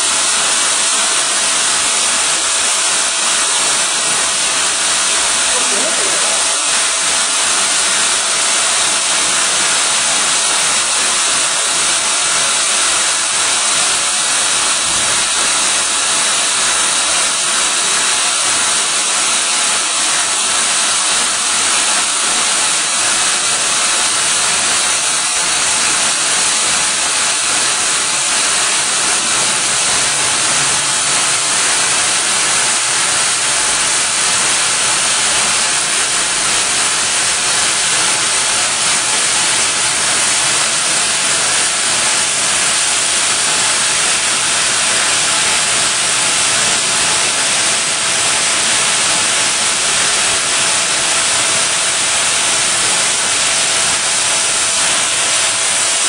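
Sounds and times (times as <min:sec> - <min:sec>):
air hissing from nozzles: 0:00.0 - 0:56.0.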